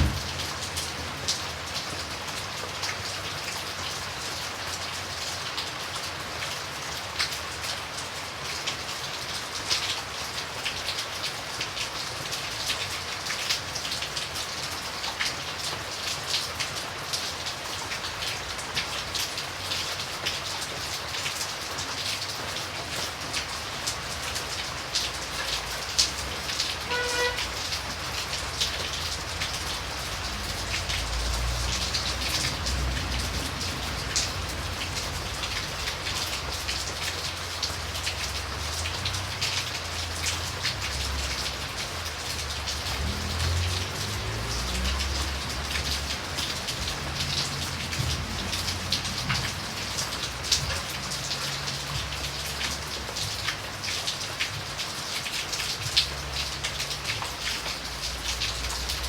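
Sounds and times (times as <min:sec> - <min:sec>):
rain patter: 0:00.0 - 0:59.0.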